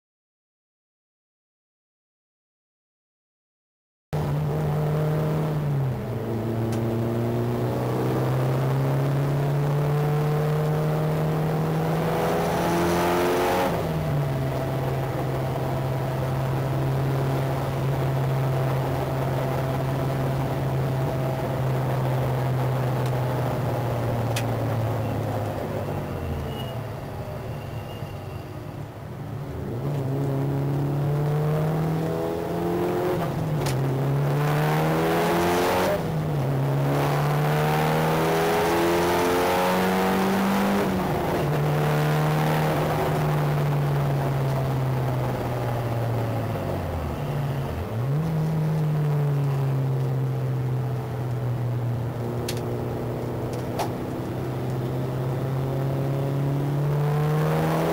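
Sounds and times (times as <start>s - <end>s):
car engine revving hard: 4.2s - 25.6s, 29.7s - 49.1s, 52.1s - 57.9s.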